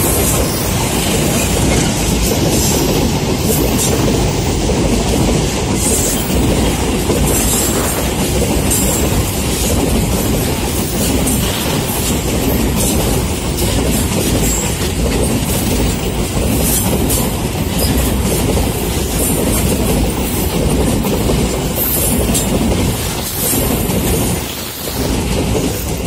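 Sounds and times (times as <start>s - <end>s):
freight train rumbling past: 0.0s - 26.0s
wheels clattering over rail joints: 0.0s - 26.0s.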